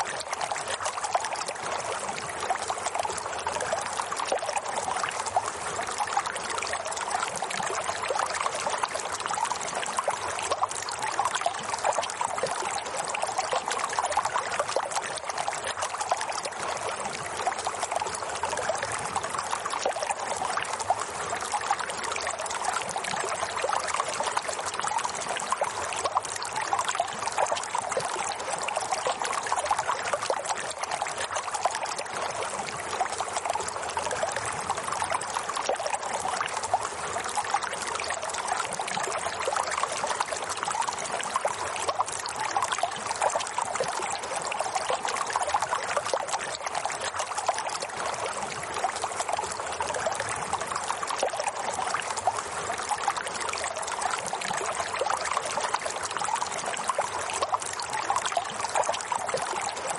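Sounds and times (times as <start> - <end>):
running water flowing: 0.0 - 59.9.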